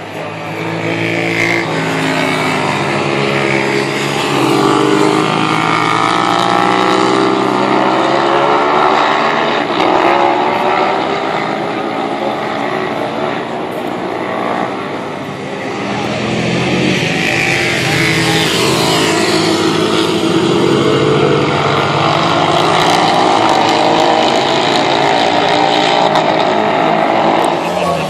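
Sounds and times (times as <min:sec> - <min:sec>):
racing motorcycle engines at full throttle: 0:00.0 - 0:28.0.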